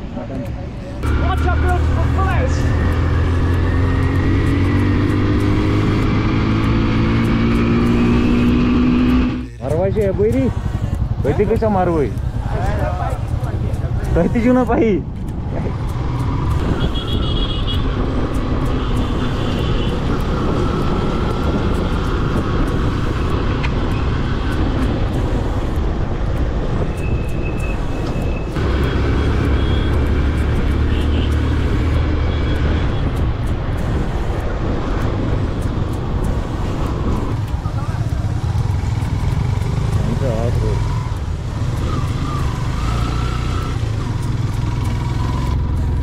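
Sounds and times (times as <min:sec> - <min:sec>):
road noise: 0:00.0 - 0:46.0
motorcycle engine running: 0:01.0 - 0:46.0
wind noise: 0:01.8 - 0:46.0.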